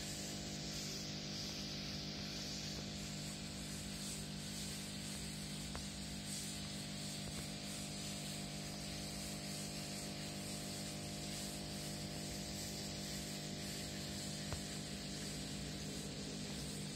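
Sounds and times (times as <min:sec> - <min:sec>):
electric pump hum: 0:00.0 - 0:16.9.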